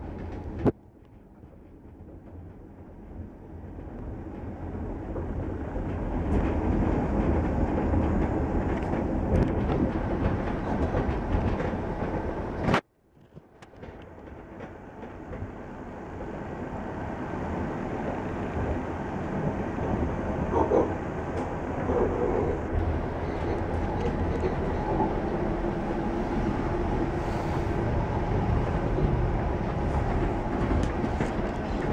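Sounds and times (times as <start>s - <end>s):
train running rumble: 0.0s - 31.9s.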